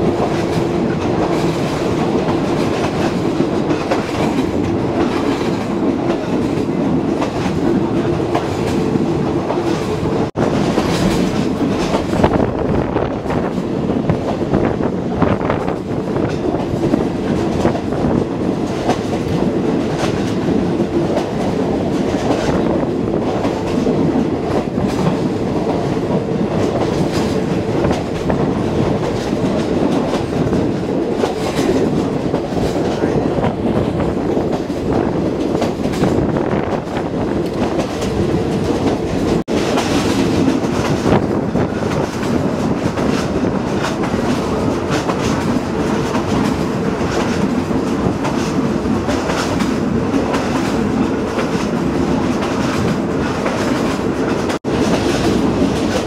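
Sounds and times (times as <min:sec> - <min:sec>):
wheels clacking over rail joints: 0:00.0 - 0:12.4, 0:15.5 - 0:56.0
train rumbling and humming: 0:00.0 - 0:56.0.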